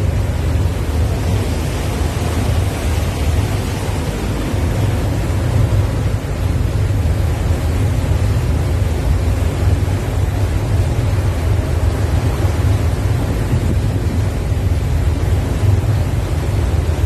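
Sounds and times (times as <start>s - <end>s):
boat wake water: 0.0s - 17.0s
wind buffeting microphone: 0.0s - 17.0s.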